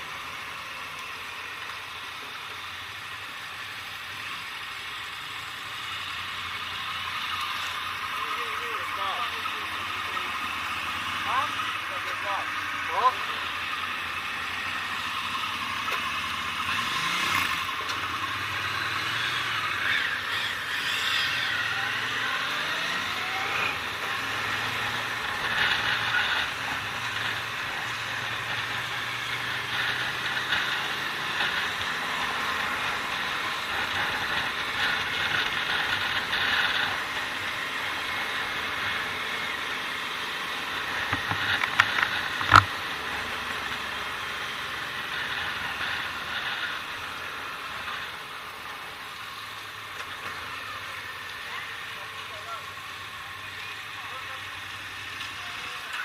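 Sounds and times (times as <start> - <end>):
motorcycle engine and road noise: 0.0 - 56.0.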